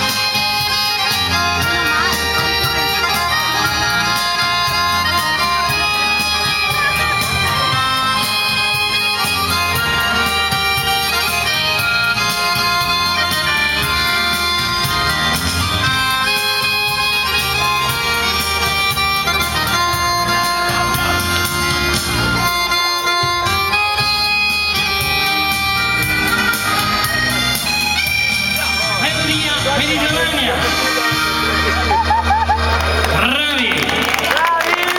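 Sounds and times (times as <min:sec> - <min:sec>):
accordion dance music: 0:00.0 - 0:34.9.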